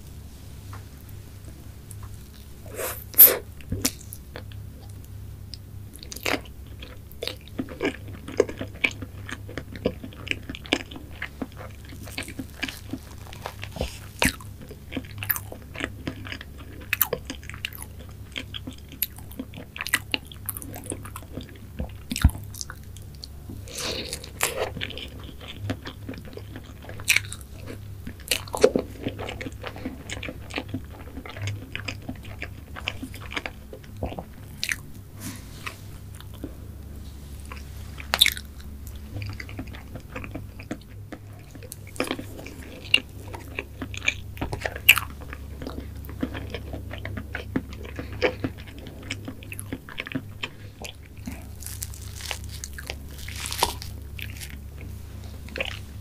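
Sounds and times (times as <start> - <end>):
faint low hum: 0.0 - 56.0
person chewing with mouth clicks: 1.9 - 36.9, 37.5 - 56.0.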